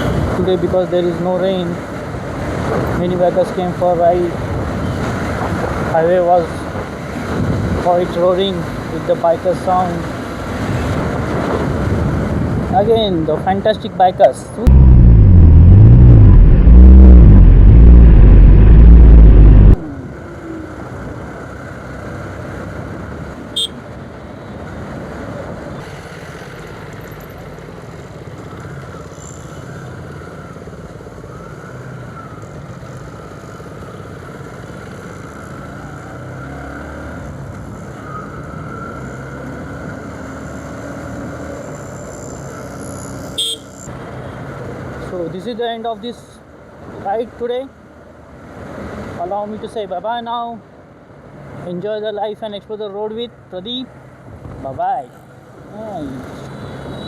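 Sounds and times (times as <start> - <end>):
motorcycle engine and road noise: 0.0 - 57.0.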